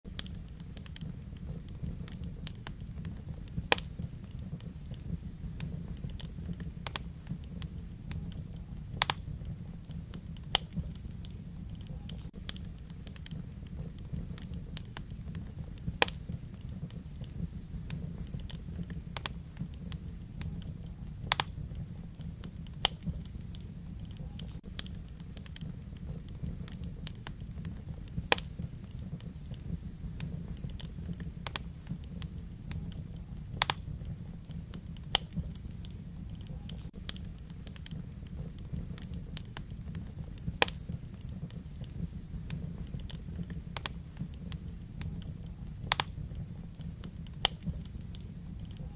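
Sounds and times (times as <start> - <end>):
fire crackles and pops: 0.0 - 48.9
fire flames rumbling: 0.0 - 48.9.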